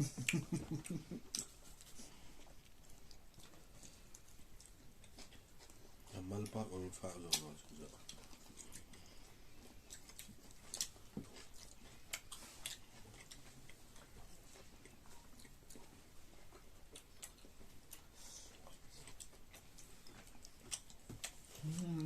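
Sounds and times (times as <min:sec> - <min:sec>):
chewing and biting food: 0:00.0 - 0:22.0.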